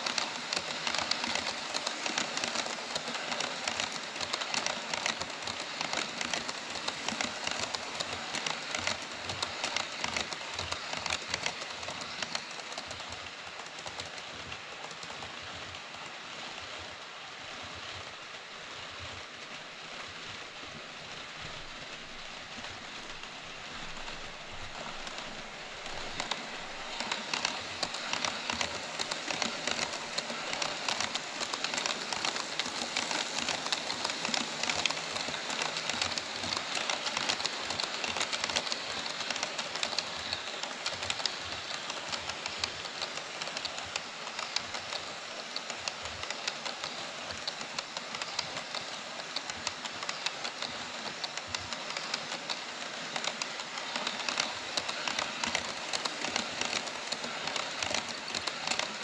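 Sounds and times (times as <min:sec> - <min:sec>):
model train wheels clattering: 0:00.0 - 0:16.8, 0:20.6 - 0:59.0.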